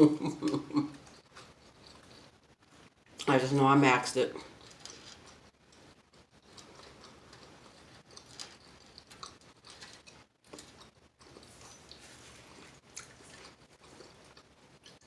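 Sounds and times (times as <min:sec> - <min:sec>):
person chewing: 0:00.0 - 0:03.3, 0:04.4 - 0:15.0.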